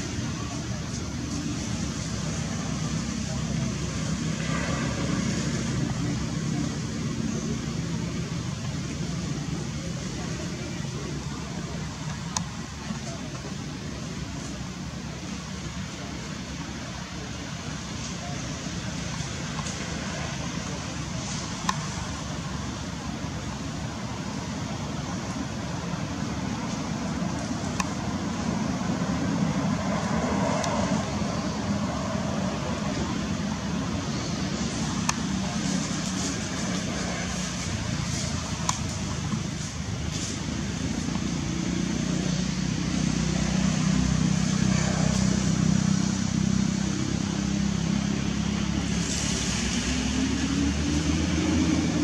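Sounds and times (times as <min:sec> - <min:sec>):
vehicle engine droning: 0:00.0 - 0:52.0.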